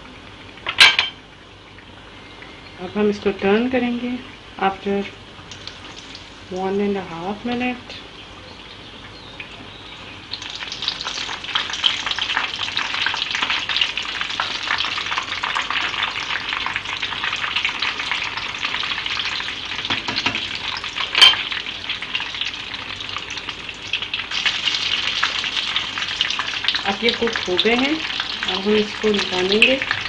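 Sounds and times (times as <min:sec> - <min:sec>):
food frying in hot oil: 0:00.0 - 0:30.0.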